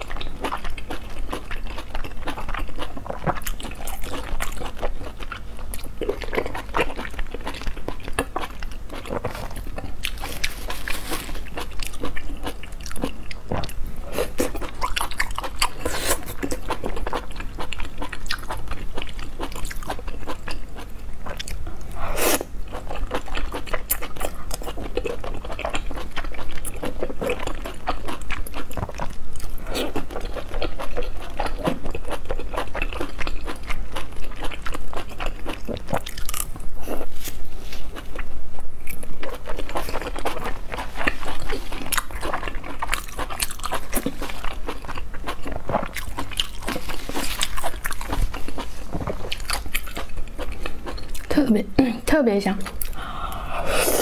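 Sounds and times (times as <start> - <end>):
person chewing and slurping: 0.0 - 51.4, 52.6 - 54.0.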